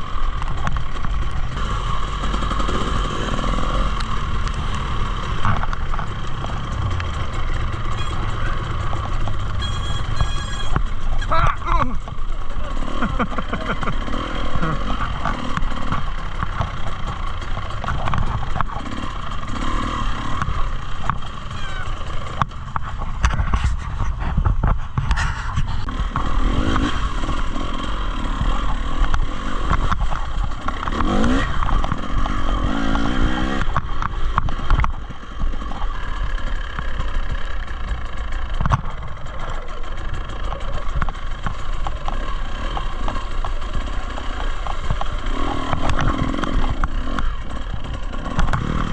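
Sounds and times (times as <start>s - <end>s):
bike rattling over rough ground: 0.0s - 48.9s
dirt bike engine revving: 0.0s - 48.9s.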